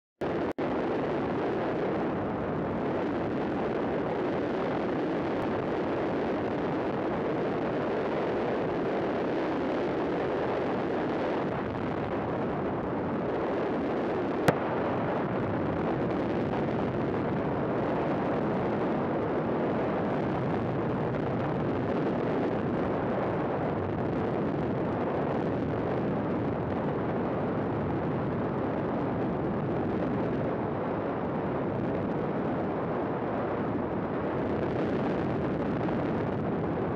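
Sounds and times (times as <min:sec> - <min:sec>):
wind buffeting microphone: 0:00.2 - 0:36.9.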